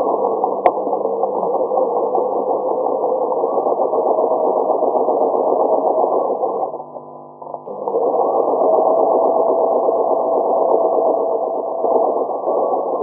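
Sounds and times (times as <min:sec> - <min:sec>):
sewing machine running: 0:00.0 - 0:06.7, 0:07.7 - 0:13.0.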